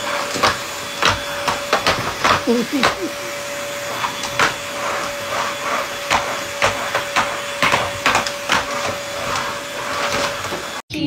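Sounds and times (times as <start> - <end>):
vacuum cleaner motor whine: 0.0 - 10.9.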